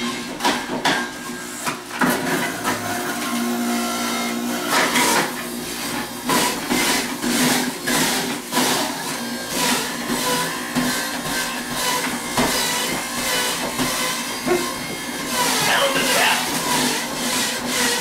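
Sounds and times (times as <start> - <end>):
juicer grinding vegetables: 0.0 - 18.0
juicer motor hum: 0.0 - 18.0.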